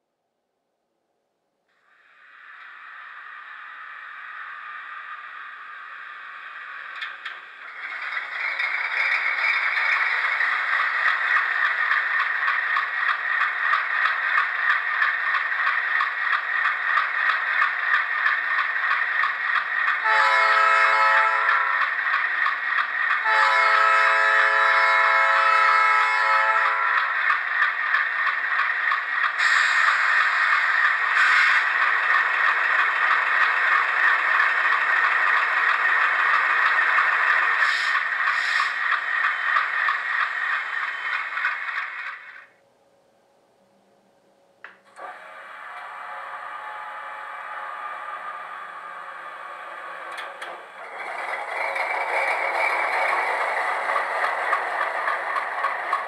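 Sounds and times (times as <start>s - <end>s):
model locomotive engine sound: 1.7s - 43.5s, 44.2s - 56.0s.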